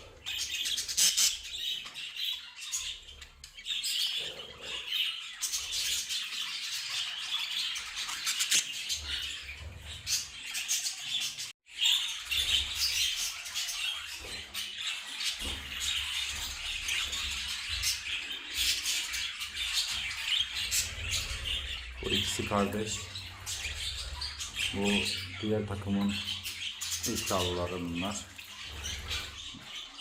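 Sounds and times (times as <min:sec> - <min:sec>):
budgerigars chattering and chirping: 0:00.0 - 0:30.0.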